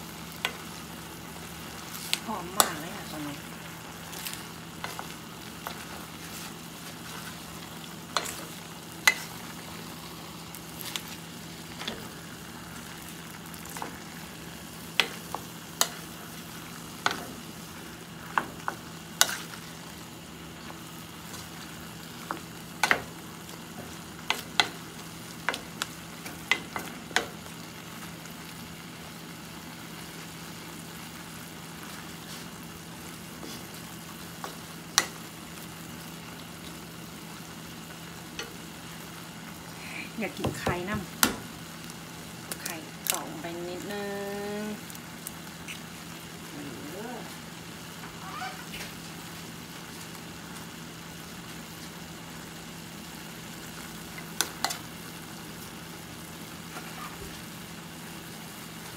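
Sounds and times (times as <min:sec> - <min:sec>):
food sizzling: 0:00.0 - 0:58.9.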